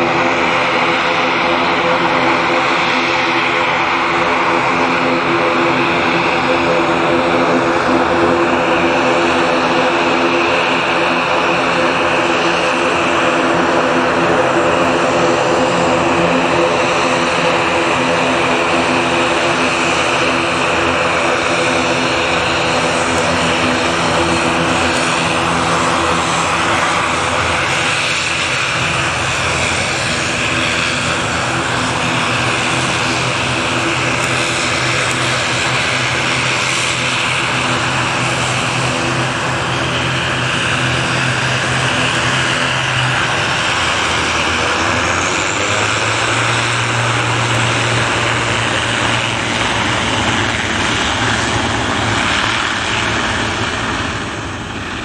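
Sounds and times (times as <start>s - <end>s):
turboprop airliner taxiing: 0.0s - 55.0s.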